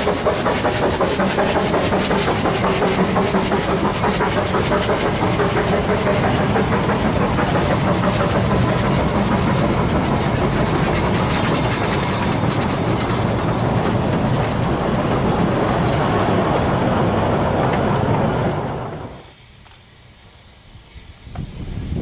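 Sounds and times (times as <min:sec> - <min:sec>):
train wheels rumbling on rails: 0:00.0 - 0:19.8.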